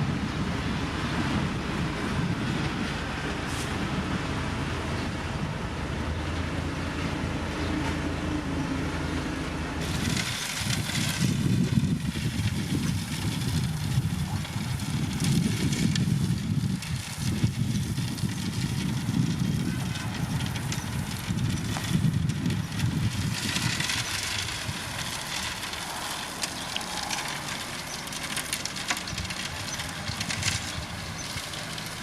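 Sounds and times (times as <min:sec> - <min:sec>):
diesel machinery engine hum: 0:00.0 - 0:32.0.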